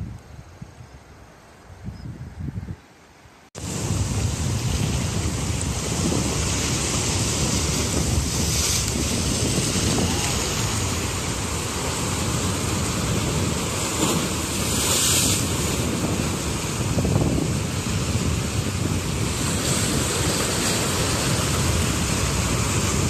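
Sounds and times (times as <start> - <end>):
wind rumbling on microphone: 0.0 - 2.9, 3.6 - 23.0
sea surf washing over rocks: 3.6 - 23.0.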